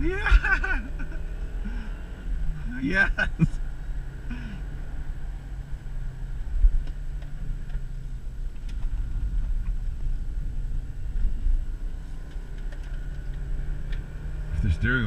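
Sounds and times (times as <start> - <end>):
car engine under load: 0.0 - 15.0
road rumble inside car: 0.0 - 15.0.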